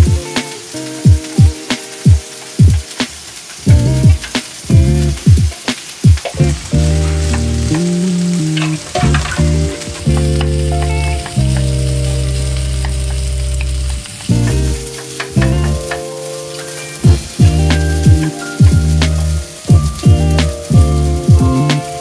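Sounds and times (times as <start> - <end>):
background music: 0.0 - 22.0
food sizzling in a frying pan: 0.0 - 22.0.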